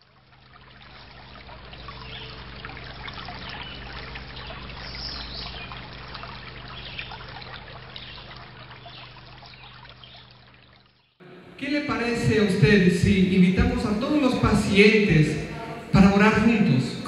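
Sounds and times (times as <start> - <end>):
water trickling and babbling: 0.0 - 17.0
low steady hum: 0.2 - 10.6, 11.2 - 17.0.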